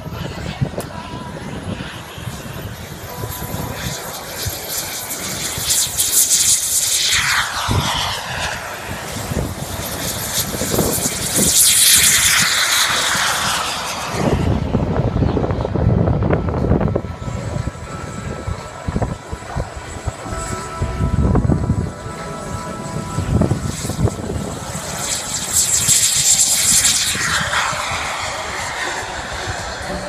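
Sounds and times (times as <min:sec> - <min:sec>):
model jet turbine flying past: 0:00.0 - 0:30.0.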